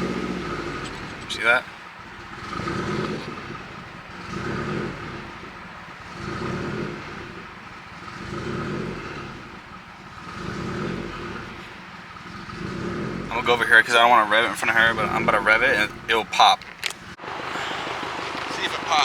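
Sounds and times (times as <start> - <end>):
car engine idle rising and falling: 0.0 - 19.0.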